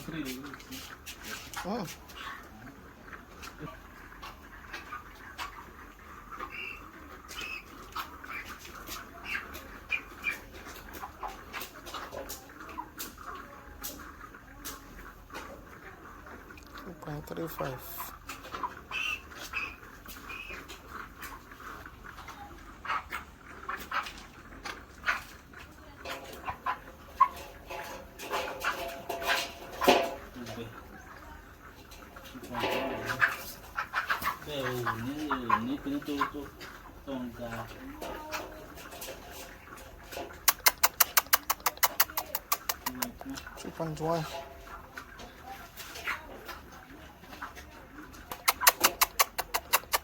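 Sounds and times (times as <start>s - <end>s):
chickens squawking and peeping: 0.0s - 50.0s.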